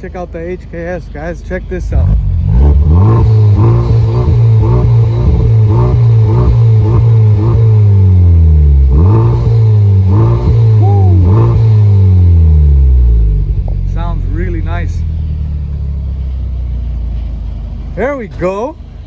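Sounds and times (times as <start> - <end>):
car engine revving: 1.8 - 19.0.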